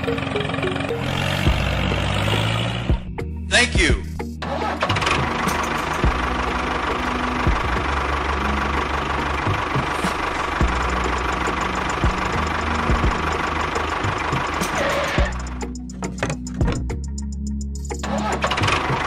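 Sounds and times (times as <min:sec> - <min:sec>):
engine running with knocking rattle: 0:00.0 - 0:03.2, 0:04.6 - 0:17.2, 0:17.8 - 0:19.0.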